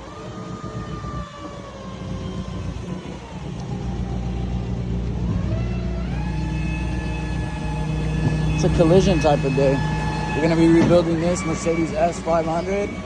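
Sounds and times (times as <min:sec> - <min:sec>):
low rumble: 0:00.0 - 0:13.0
vehicle engine running: 0:00.0 - 0:13.0.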